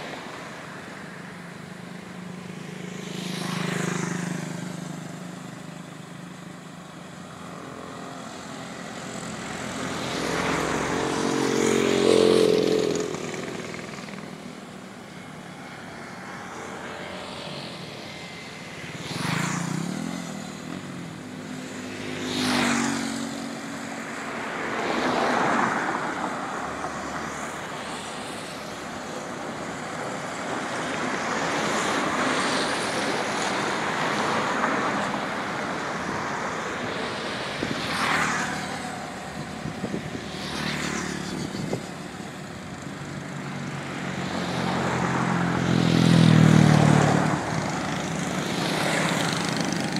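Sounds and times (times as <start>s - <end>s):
vehicles driving past: 0.0s - 49.9s.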